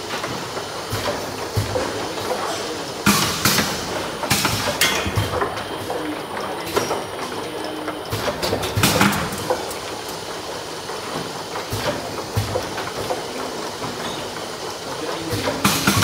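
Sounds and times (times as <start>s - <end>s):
plastic bottles clattering on conveyor: 0.0s - 16.0s.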